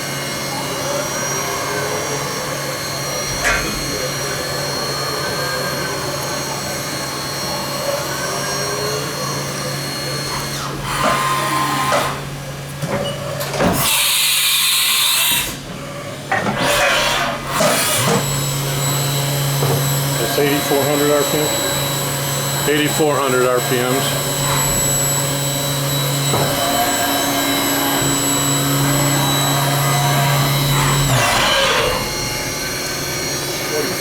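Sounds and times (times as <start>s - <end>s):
machine spindle whining: 0.0s - 12.8s, 13.4s - 34.0s.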